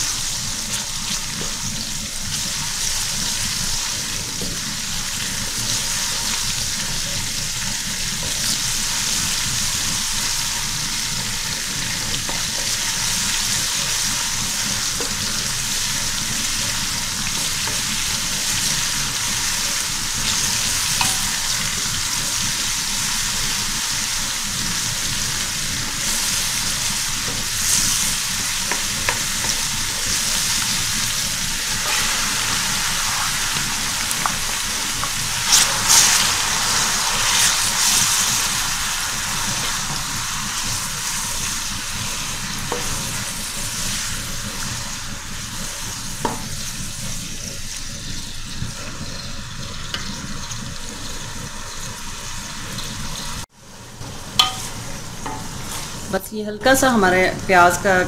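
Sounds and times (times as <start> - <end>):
garlic sizzling in oil: 0.0 - 58.0.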